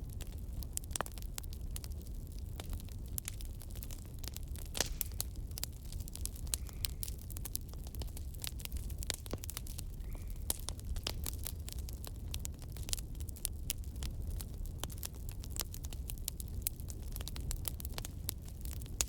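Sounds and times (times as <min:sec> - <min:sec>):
firewood crackling: 0:00.0 - 0:19.0
low rumble of fire: 0:00.0 - 0:19.0.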